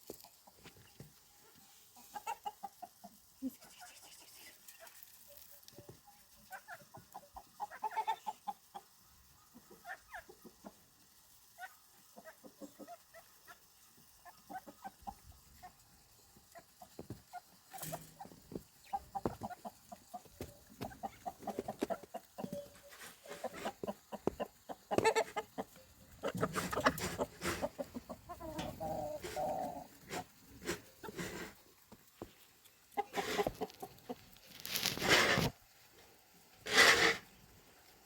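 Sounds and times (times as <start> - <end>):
farm animal calls and clicks: 0.0 - 35.5.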